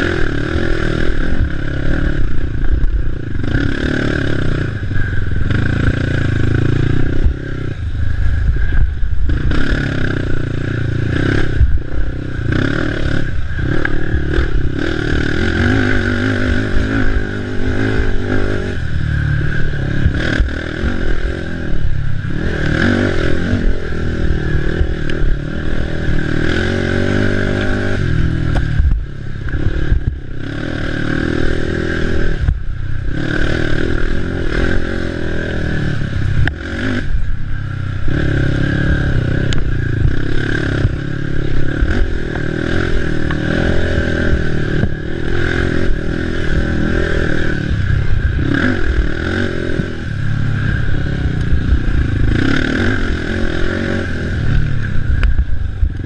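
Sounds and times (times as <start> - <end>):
atv engine revving hard: 0.0 - 56.0.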